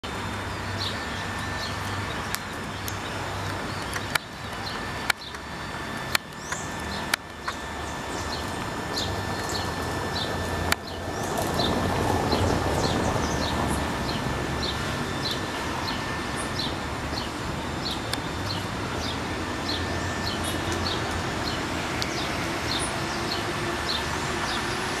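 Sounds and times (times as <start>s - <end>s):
steady low hum: 0.0s - 25.0s
small birds chirping: 0.5s - 24.8s.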